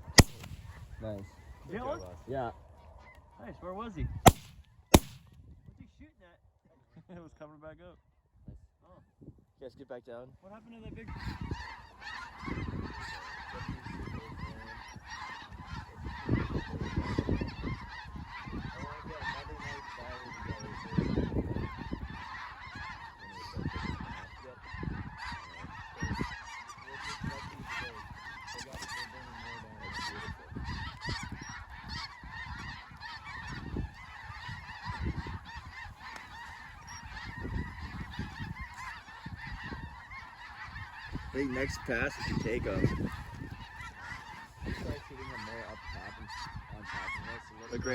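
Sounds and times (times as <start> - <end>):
geese honking: 0.0 - 2.1, 4.3 - 5.2, 11.0 - 47.9.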